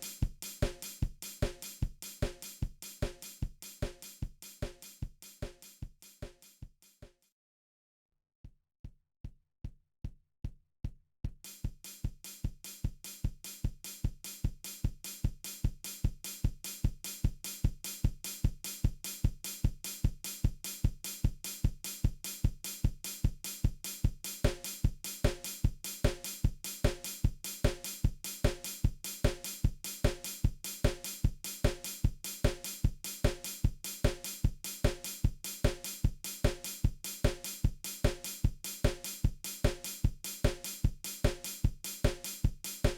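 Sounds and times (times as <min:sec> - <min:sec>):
drum kit beat: 0:00.0 - 0:05.6, 0:11.5 - 0:42.9.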